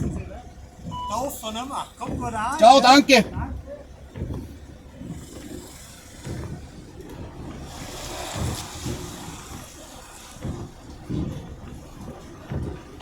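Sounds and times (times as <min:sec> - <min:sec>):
car rumbling over snowy road: 0:00.0 - 0:13.0.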